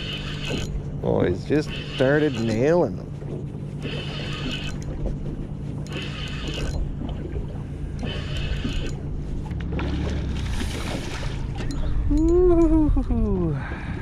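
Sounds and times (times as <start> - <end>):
spinning reel whirring: 0.0 - 3.0, 3.8 - 13.4
steady low hum: 0.0 - 14.0.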